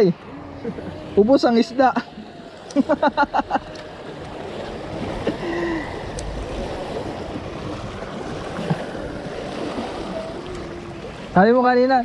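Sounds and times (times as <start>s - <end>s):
small waves lapping against rocks: 0.9s - 12.0s.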